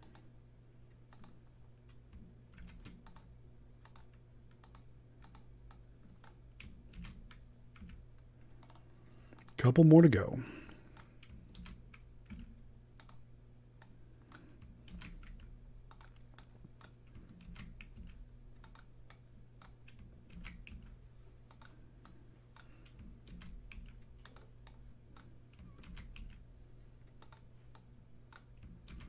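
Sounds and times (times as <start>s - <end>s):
faint keyboard typing: 0.0s - 9.9s, 10.5s - 29.0s.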